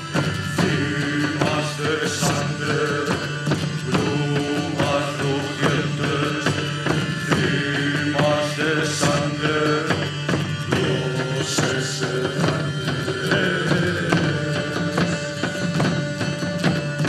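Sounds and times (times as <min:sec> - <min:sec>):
low drone: 0:00.0 - 0:16.7
live folk music: 0:00.0 - 0:17.0.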